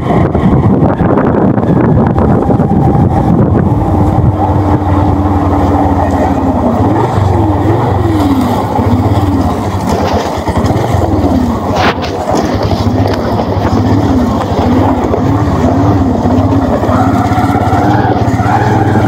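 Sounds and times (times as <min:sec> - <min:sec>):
motorcycle engine revving: 0:00.0 - 0:19.0
wind and road noise: 0:00.0 - 0:19.0.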